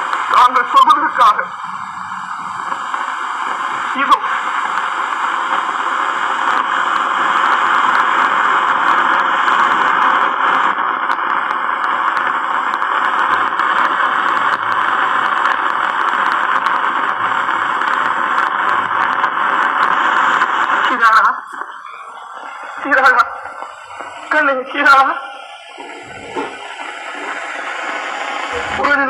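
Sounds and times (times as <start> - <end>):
film soundtrack hiss: 0.0 - 29.0.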